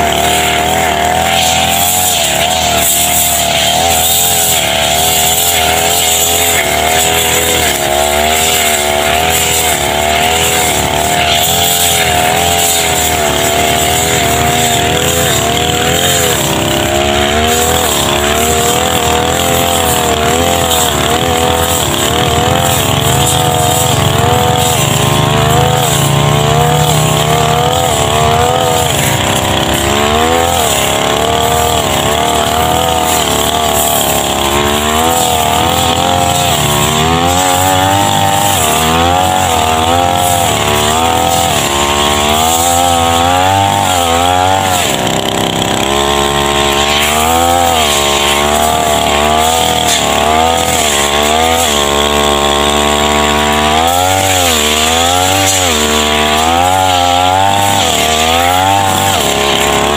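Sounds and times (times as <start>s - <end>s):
blade cutting tall grass: 0.0s - 59.9s
brush cutter engine at high revs: 0.0s - 59.9s.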